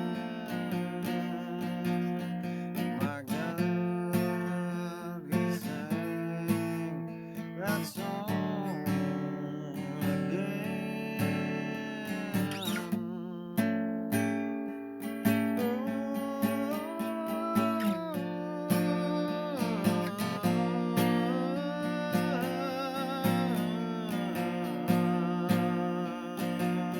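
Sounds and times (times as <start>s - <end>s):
acoustic guitar strumming: 0.0s - 26.9s.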